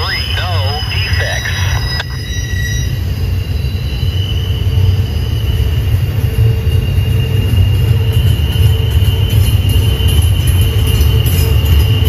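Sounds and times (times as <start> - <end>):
train low rumble: 0.0 - 12.0
wheel flange squeal: 0.4 - 12.0.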